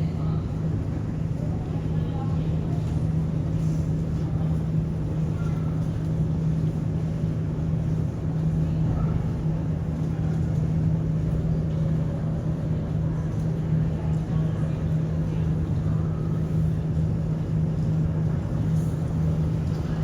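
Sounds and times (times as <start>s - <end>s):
mechanical drone with low hum: 0.0s - 20.0s.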